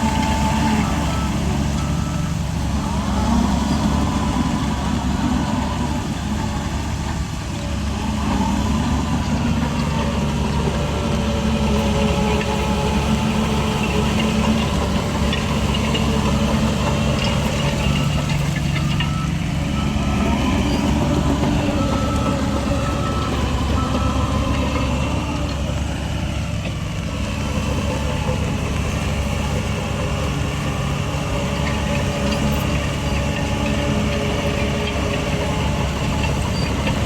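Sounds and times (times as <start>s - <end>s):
heavy diesel engine droning: 0.0s - 37.0s.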